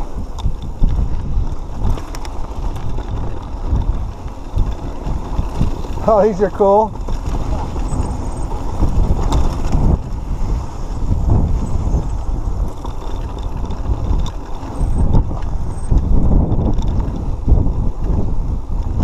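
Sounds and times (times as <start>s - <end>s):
bike rattles and clicks: 0.0s - 19.0s
bike tyres on dirt: 0.0s - 19.0s
wind noise on microphone: 0.0s - 19.0s.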